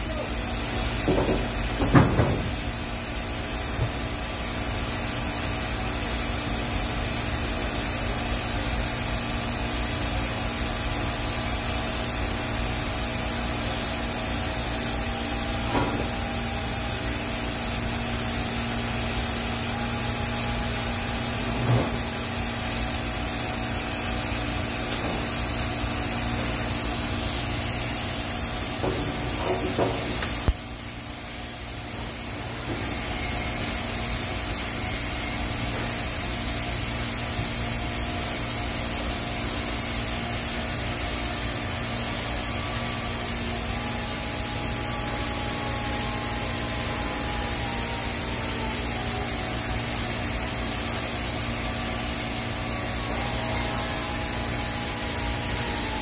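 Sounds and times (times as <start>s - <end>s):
welding arc hissing: 0.0s - 56.0s.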